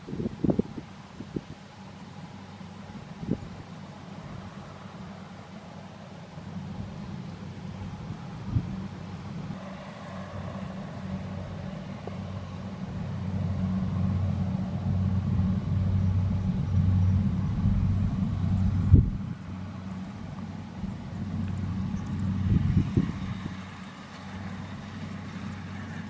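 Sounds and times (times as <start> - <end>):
combine harvester diesel engine: 0.0 - 26.0.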